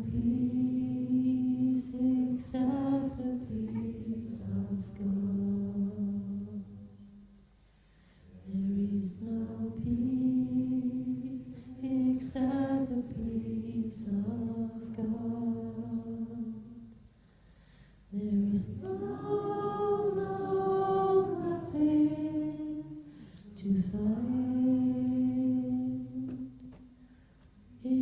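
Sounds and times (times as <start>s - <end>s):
a cappella chant: 0.0s - 7.2s, 8.2s - 17.1s, 18.1s - 27.0s, 27.7s - 28.0s.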